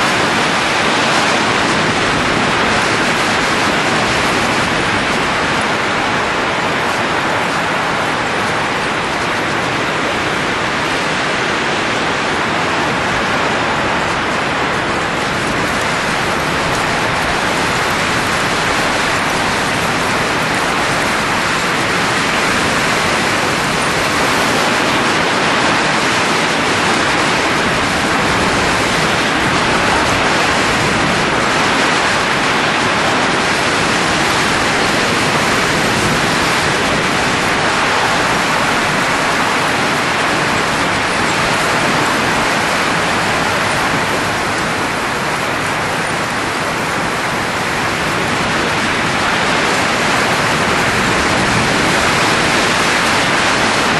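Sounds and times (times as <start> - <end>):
rushing of blowing air: 0.0 - 53.9.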